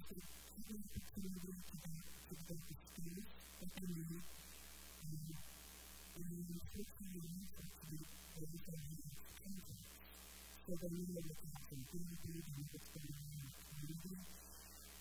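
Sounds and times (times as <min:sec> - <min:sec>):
muffled woman speaking: 0:00.0 - 0:04.4, 0:05.0 - 0:05.5, 0:06.2 - 0:10.0, 0:10.6 - 0:14.7
electrical mains hum: 0:00.0 - 0:15.0.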